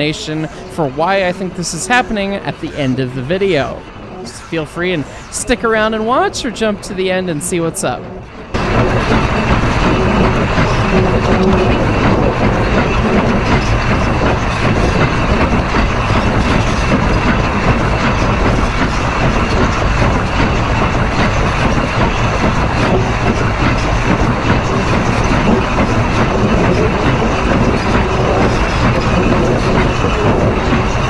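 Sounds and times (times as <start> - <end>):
steel wheels rolling on rail: 0.0 - 31.0.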